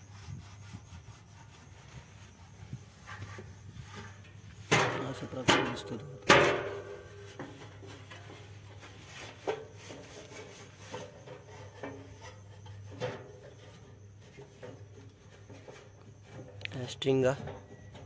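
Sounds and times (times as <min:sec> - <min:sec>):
faint rubbing and scraping: 0:00.0 - 0:18.0.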